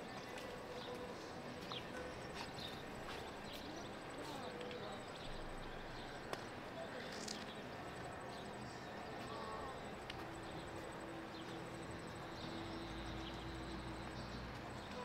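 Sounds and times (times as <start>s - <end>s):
distant street activity: 0.0s - 15.0s
faint voices: 0.0s - 15.0s.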